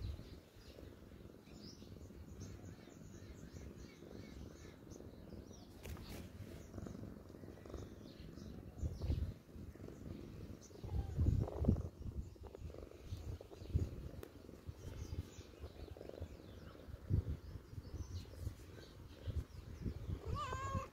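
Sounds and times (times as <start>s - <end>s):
cat purring: 0.0s - 20.9s
small birds chirping: 0.0s - 20.9s.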